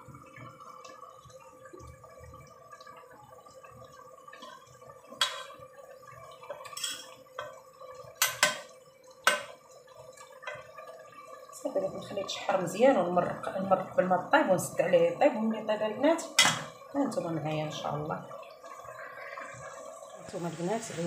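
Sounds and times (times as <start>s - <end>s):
pots boiling: 0.0s - 21.0s.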